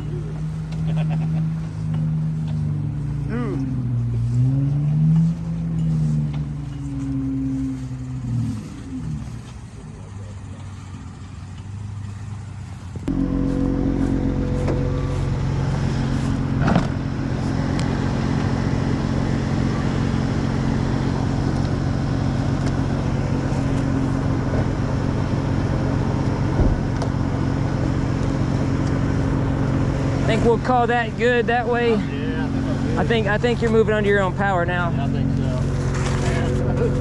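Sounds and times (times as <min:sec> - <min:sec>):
vehicle engine running under load: 0:00.0 - 0:37.0.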